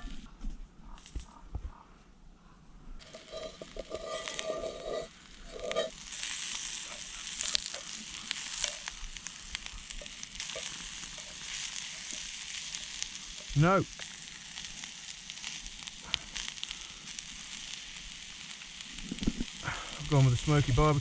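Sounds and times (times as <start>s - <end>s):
food sizzling in frying pan: 3.0s - 21.0s.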